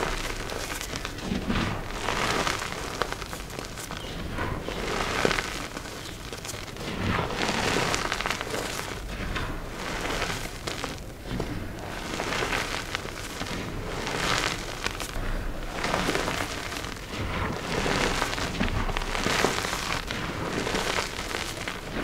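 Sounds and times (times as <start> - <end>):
chalk crunching and crumbling: 0.0 - 22.0.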